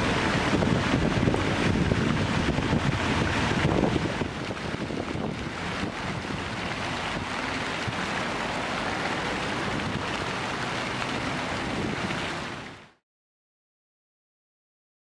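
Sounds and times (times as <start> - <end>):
fountain jets splashing into pool: 0.0 - 13.0.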